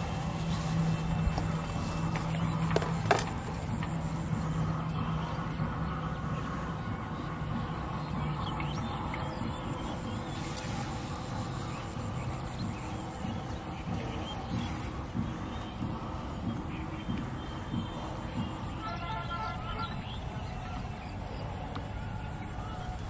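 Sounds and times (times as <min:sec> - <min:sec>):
background hiss: 0:00.0 - 0:23.0
distant motor hum: 0:00.0 - 0:23.0.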